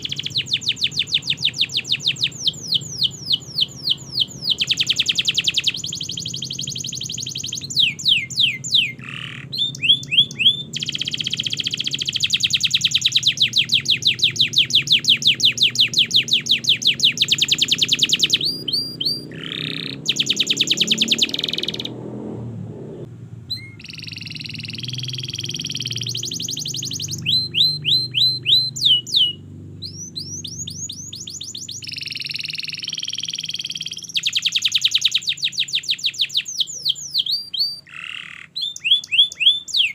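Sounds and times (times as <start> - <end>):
canary singing trills: 0.0 - 22.2, 22.8 - 39.9.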